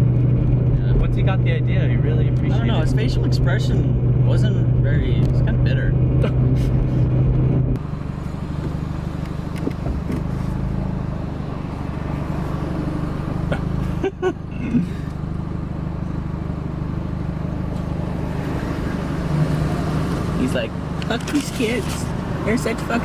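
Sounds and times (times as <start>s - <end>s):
car cabin rumble: 0.0s - 23.0s.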